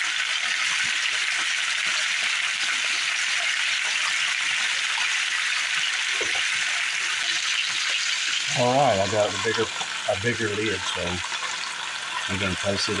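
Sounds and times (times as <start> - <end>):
potatoes sizzling in skillet: 0.0 - 13.0.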